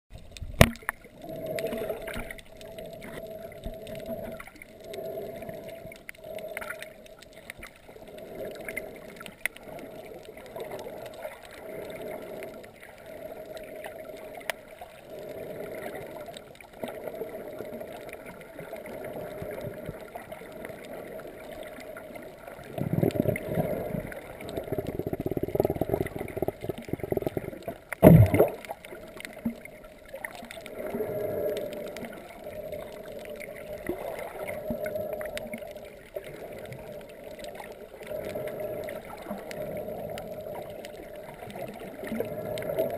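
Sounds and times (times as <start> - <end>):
water swishing and gurgling underwater: 0.1 - 42.9.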